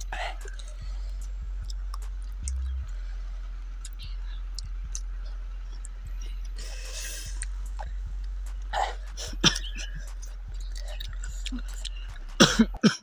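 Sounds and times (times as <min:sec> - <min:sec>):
chewing and lip smacks: 0:00.0 - 0:12.4
steady low hum: 0:00.0 - 0:13.0.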